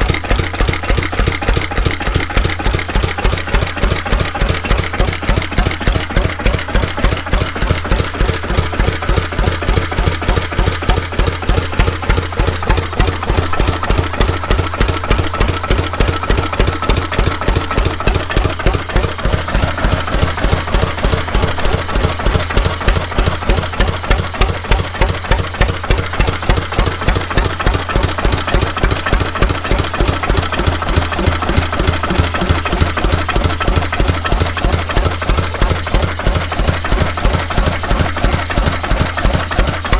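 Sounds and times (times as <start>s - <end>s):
stationary diesel engine running: 0.0s - 39.9s.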